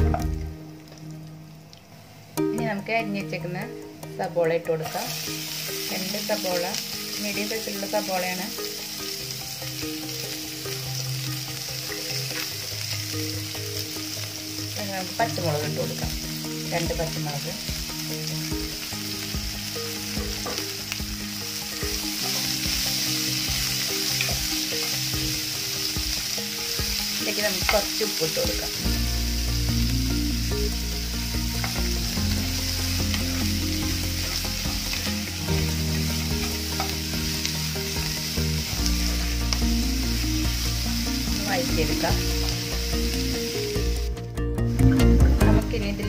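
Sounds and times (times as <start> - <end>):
food sizzling in hot oil: 0.0 - 46.0.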